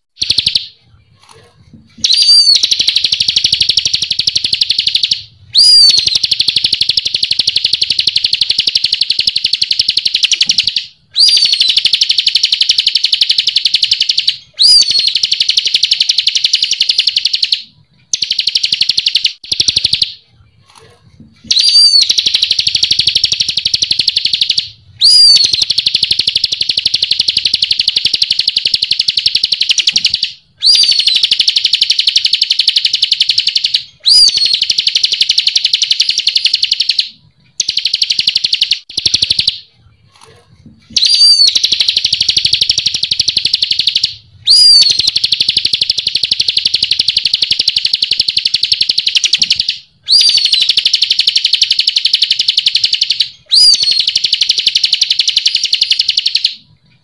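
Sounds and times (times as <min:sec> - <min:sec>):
bird trilling high-pitched: 0:00.1 - 0:01.3, 0:02.0 - 0:20.8, 0:21.4 - 0:39.7, 0:40.9 - 0:56.6.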